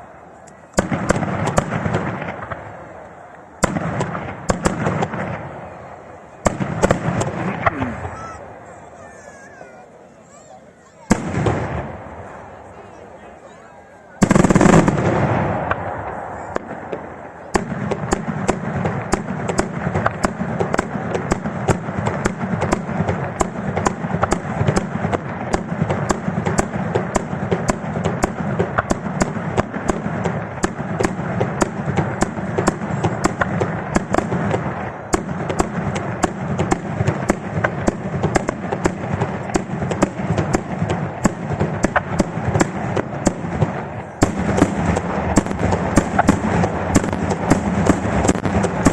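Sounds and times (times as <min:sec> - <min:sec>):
fireworks bangs and crackling: 0:00.0 - 0:09.8, 0:10.9 - 0:48.9.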